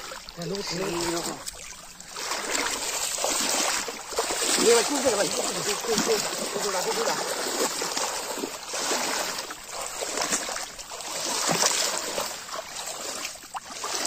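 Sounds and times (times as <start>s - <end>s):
brief water splashes: 0.0s - 14.0s
water sloshing around boat: 0.0s - 14.0s.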